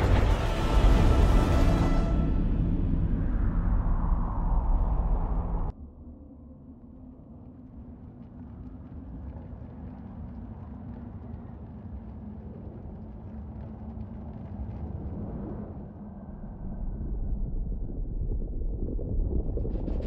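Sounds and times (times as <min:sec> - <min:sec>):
low steady rumbling: 0:00.0 - 0:11.0, 0:12.2 - 0:20.0.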